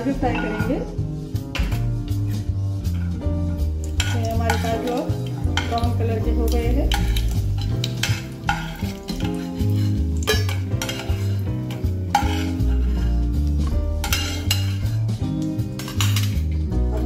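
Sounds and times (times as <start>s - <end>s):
background music: 0.0s - 17.0s
ghee sizzling: 0.0s - 17.0s
steel ladle scraping a pot: 0.1s - 1.0s, 1.6s - 16.5s.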